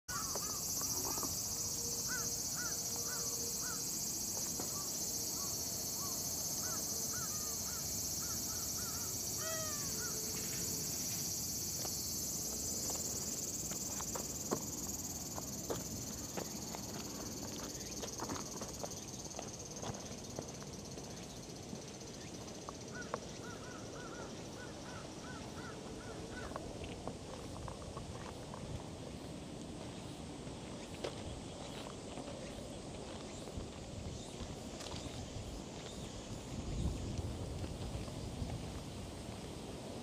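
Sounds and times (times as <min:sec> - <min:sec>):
insects chirring: 0:00.1 - 0:40.0.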